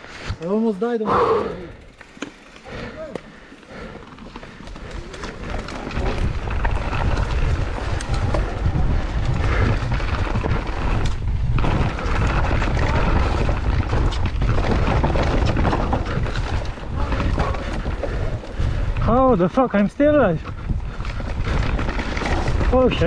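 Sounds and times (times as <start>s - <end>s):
bike rattling over rough ground: 1.6s - 23.0s
wind buffeting microphone: 3.7s - 23.0s.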